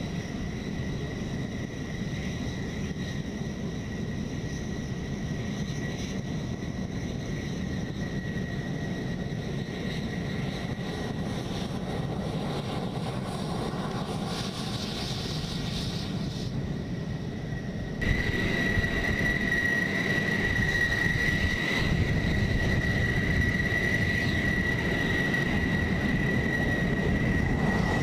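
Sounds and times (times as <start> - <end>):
jet engine whine and rush: 0.0 - 28.0.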